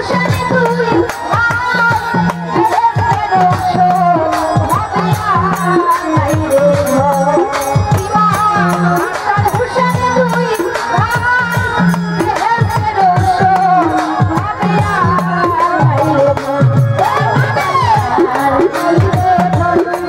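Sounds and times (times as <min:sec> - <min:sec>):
hand drum beat: 0:00.0 - 0:20.0
sharp percussion strokes: 0:00.0 - 0:20.0
woman singing into microphone: 0:00.0 - 0:20.0.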